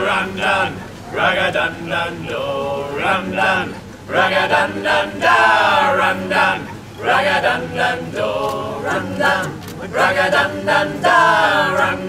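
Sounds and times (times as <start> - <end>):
group singing in harmony: 0.0 - 12.0.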